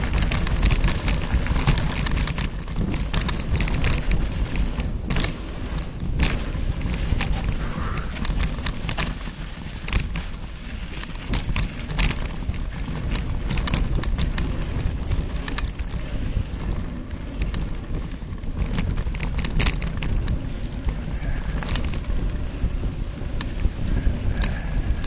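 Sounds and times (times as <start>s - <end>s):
bike clicks and rattles: 0.0s - 25.0s
wind and tyre rumble: 0.0s - 25.0s.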